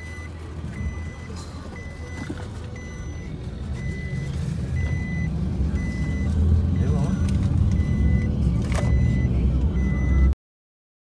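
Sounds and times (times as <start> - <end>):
electronic warning beeps: 0.0 - 10.4
vehicle rumble: 0.0 - 10.4.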